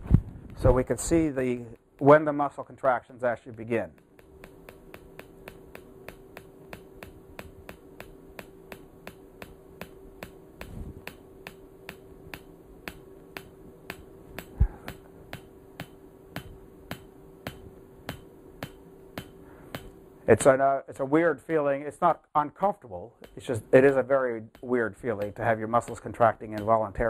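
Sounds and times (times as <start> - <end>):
cooling fans humming: 0.0 - 27.0
coil clicking: 0.2 - 20.2, 22.6 - 27.0.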